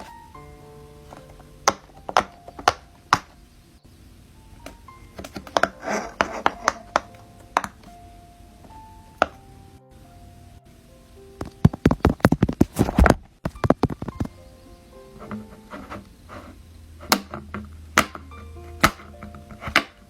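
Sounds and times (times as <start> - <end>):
soft background music: 0.0 - 12.5, 13.4 - 20.0.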